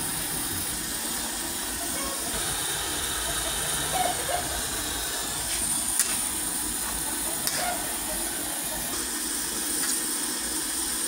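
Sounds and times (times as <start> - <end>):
soup hissing in a wok: 0.0 - 11.0.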